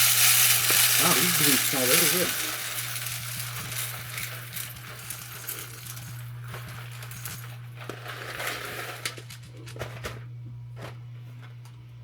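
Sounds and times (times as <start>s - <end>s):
coffee beans rattling into hopper: 0.0s - 10.2s
steady low hum: 0.0s - 12.0s.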